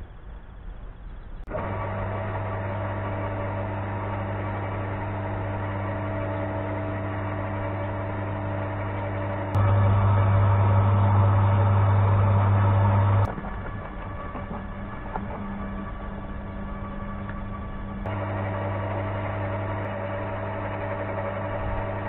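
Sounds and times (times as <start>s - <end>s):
garden shredder humming: 1.5s - 22.0s.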